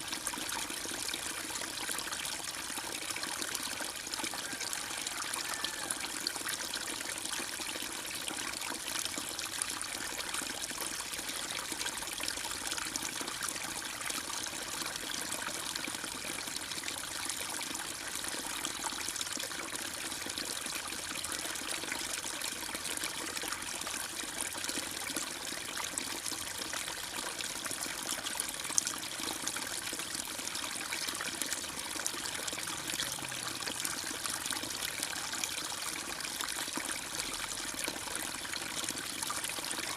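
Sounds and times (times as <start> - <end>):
trickling stream water: 0.0 - 39.9.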